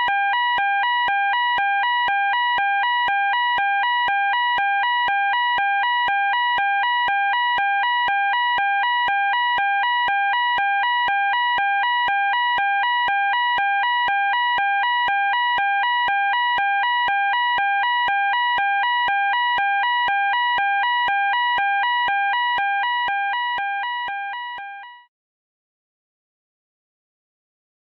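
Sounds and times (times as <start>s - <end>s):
fire alarm two-tone warble: 0.0s - 25.1s.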